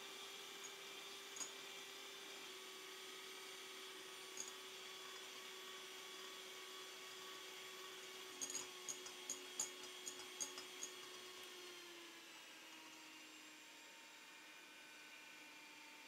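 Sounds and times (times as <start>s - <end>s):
electric hand mixer running: 0.0s - 13.8s.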